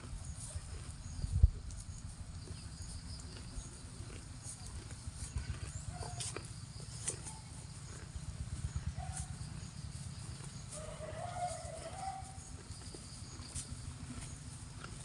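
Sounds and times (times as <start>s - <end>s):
cow tearing grass and chewing: 0.0s - 15.0s
steady low rumble: 0.0s - 15.0s.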